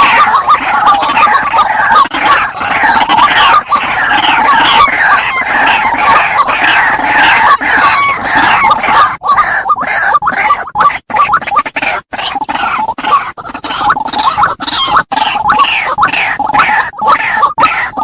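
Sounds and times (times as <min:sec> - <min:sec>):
waterhens calling: 0:00.0 - 0:18.0.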